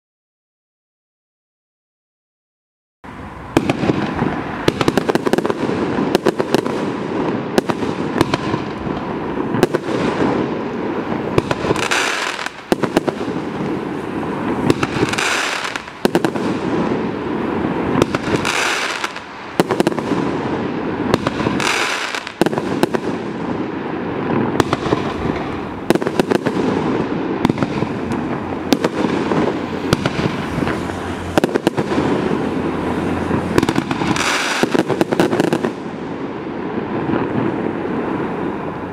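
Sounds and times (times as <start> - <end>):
fireworks crackling: 3.1 - 38.9
fireworks sharp bangs: 3.1 - 38.9.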